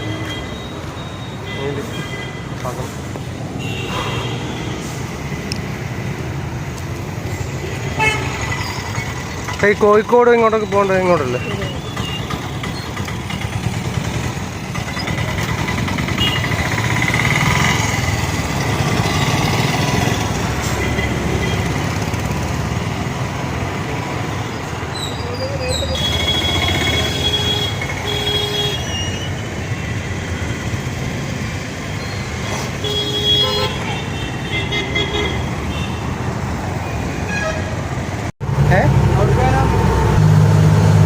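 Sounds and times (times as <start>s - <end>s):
road traffic noise: 0.0s - 41.0s.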